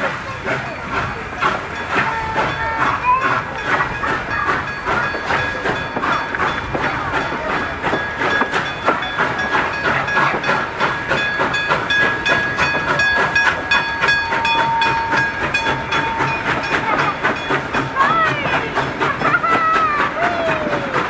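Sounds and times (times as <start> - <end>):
train wheels clattering on rails: 0.0 - 21.0
level crossing bell ringing: 1.7 - 19.0.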